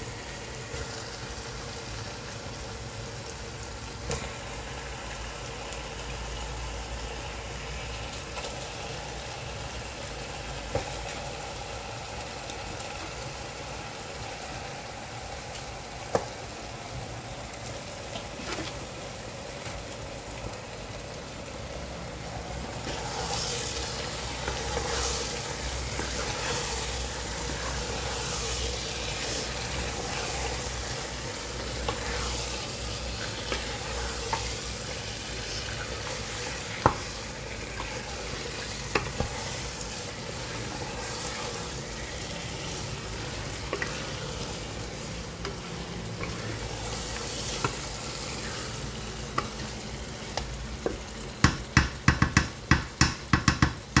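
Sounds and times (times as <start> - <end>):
chicken sizzling in a pot: 0.0 - 54.0.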